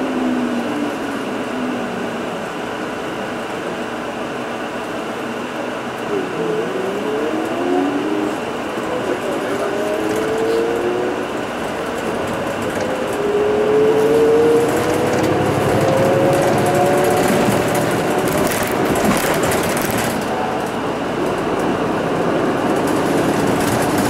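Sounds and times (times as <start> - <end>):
rising whine: 0.0 - 22.6
bus drivetrain and road noise: 0.0 - 24.0.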